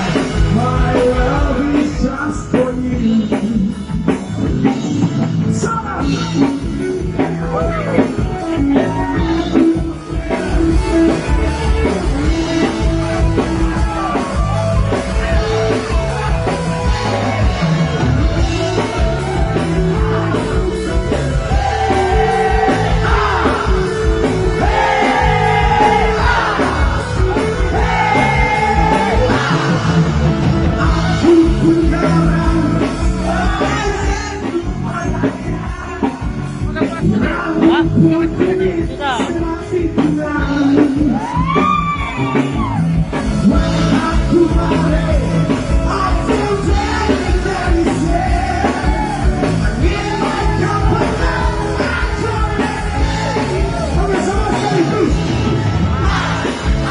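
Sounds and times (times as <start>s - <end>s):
bending guitar lead melody: 0.0s - 56.9s
live rock band playing: 0.0s - 56.9s.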